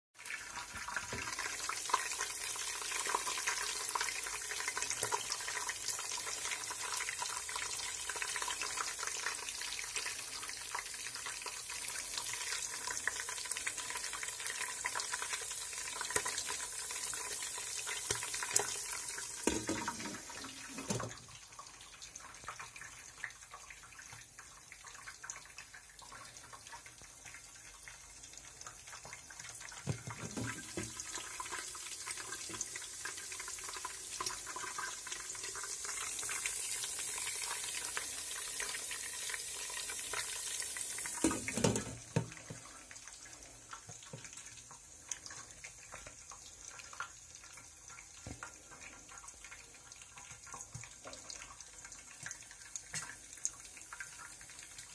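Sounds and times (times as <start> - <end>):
oil sizzling around popcorn: 0.2 - 54.9.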